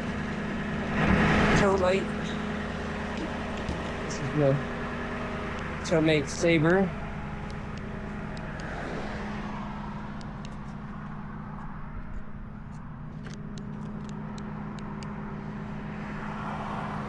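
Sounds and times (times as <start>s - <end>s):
truck engine idling: 0.0s - 16.7s.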